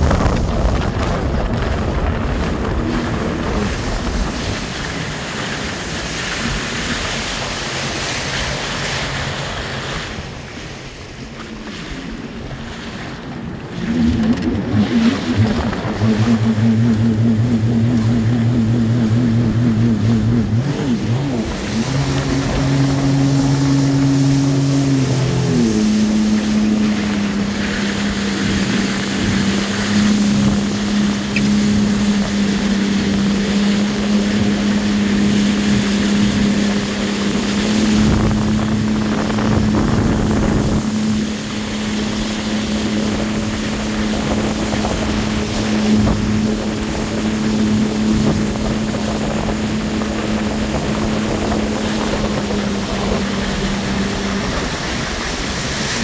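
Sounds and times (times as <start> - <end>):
jet ski engine running: 0.0 - 56.0
water rushing past hull: 0.0 - 56.0
wind buffeting microphone: 0.0 - 56.0.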